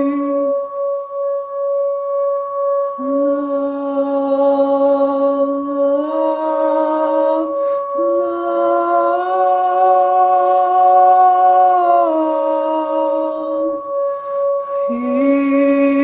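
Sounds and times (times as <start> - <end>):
singing bowl ringing drone: 0.0 - 16.0.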